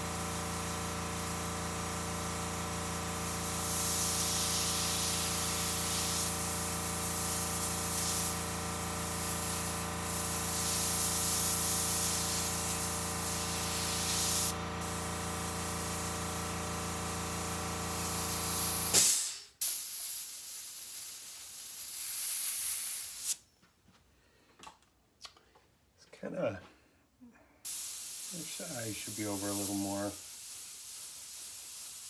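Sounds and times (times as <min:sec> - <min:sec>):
air compressor humming: 0:00.0 - 0:23.4, 0:27.7 - 0:32.0
airbrush hissing: 0:00.0 - 0:23.4, 0:27.6 - 0:32.0.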